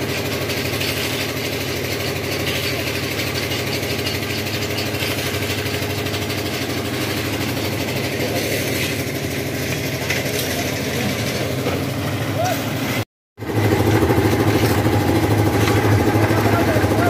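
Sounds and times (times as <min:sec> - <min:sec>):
concrete mixer engine running: 0:00.0 - 0:17.0.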